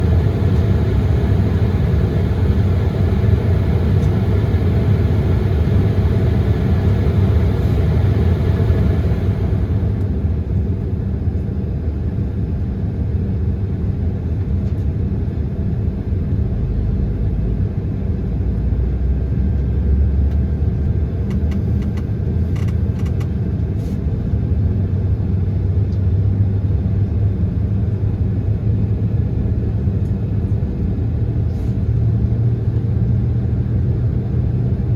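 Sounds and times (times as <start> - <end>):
jet engine cabin rumble: 0.0 - 34.9.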